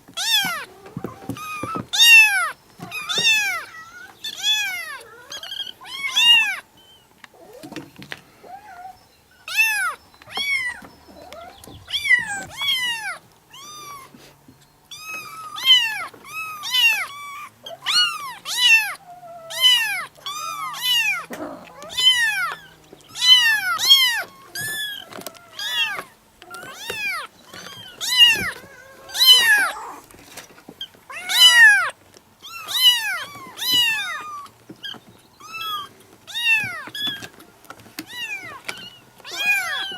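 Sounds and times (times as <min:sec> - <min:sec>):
cat meowing: 0:00.2 - 0:06.6, 0:08.5 - 0:14.2, 0:14.9 - 0:30.0, 0:31.1 - 0:37.3, 0:38.0 - 0:39.9.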